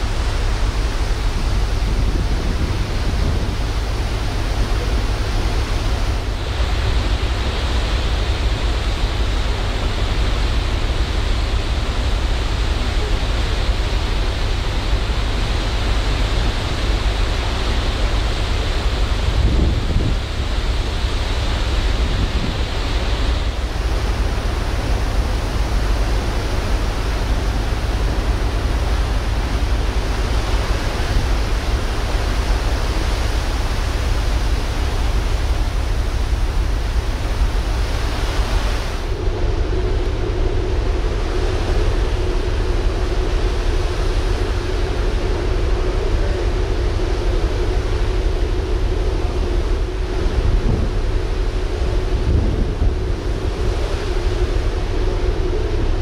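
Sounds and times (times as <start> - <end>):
low steady hum: 0.0 - 56.0
rough sea rushing: 0.0 - 56.0
wind buffeting microphone: 0.0 - 56.0.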